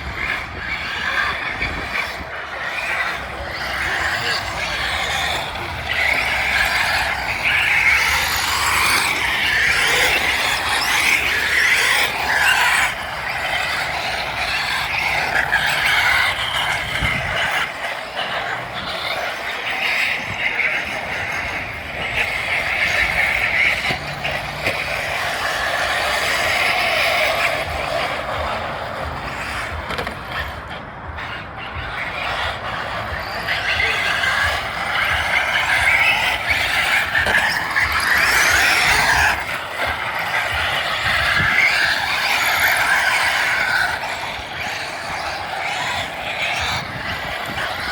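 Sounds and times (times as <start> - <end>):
toy truck electric motor whining: 0.0 - 47.9.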